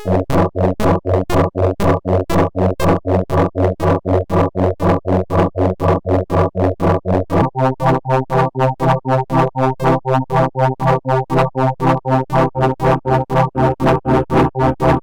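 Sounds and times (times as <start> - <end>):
pulsing synthesizer notes: 0.0 - 15.0.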